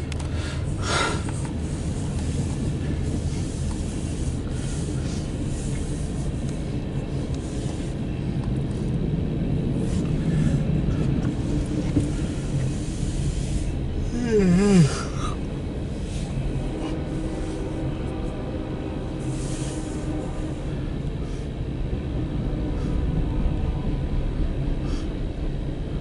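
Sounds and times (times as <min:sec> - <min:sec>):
freight train wheels rumbling on rail: 0:00.0 - 0:26.0.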